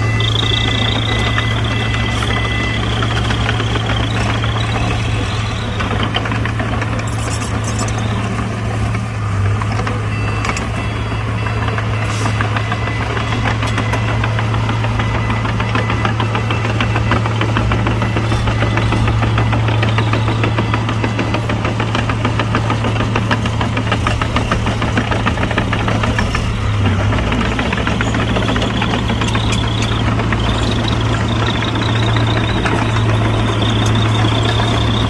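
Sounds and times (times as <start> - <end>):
diesel machinery drone: 0.0 - 35.0.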